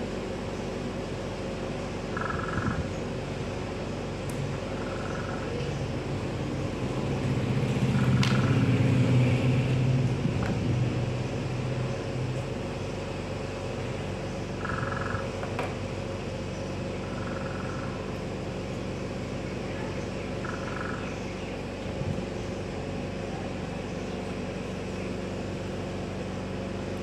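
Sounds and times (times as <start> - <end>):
low motor rumble: 0.0 - 27.0.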